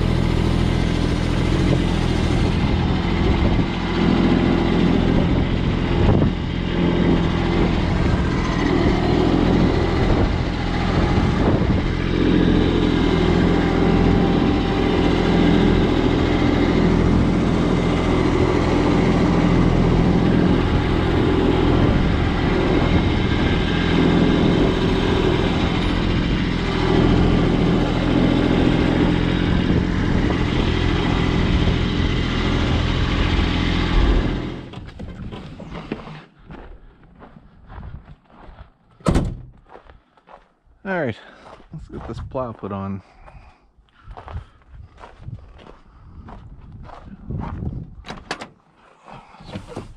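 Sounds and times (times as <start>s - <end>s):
vehicle engine droning: 0.0s - 49.9s.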